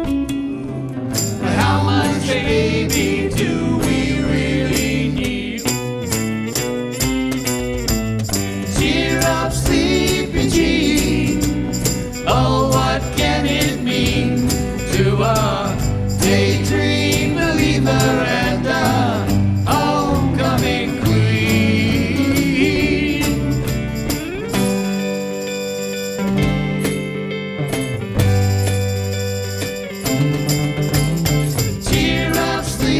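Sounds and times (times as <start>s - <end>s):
bass guitar: 0.0s - 32.9s
drums: 0.0s - 32.9s
band playing held chords: 0.7s - 32.9s
jingling percussion: 1.1s - 32.9s.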